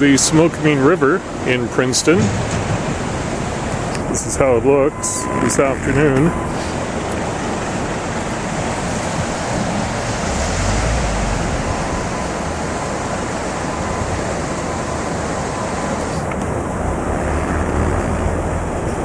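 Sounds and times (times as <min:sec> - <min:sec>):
wind buffeting microphone: 0:00.0 - 0:19.0
outdoor rushing noise: 0:00.6 - 0:19.0.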